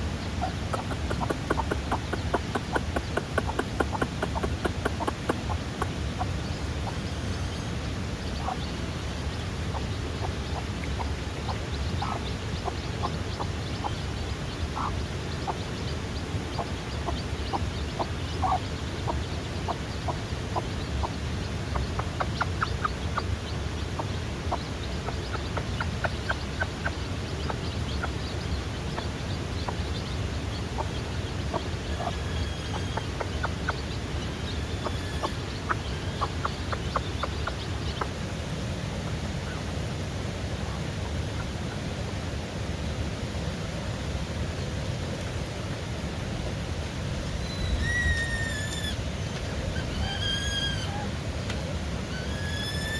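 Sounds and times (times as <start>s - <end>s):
chickens calling: 0.0s - 39.8s, 47.0s - 52.9s
low background rumble: 0.0s - 52.9s.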